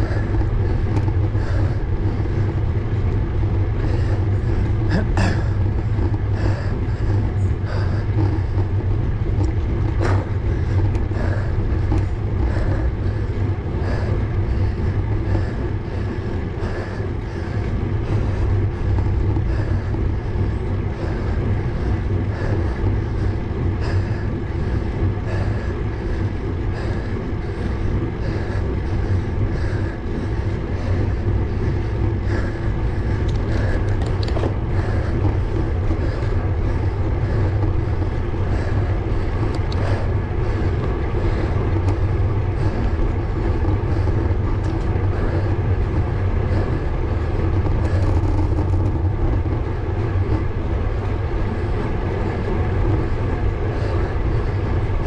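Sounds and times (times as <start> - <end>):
bike road noise: 0.0 - 55.0
wind rumble: 0.0 - 55.0.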